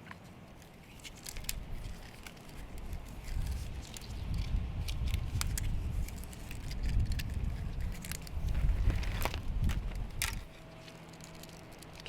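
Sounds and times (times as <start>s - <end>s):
light rustling: 0.0s - 12.0s.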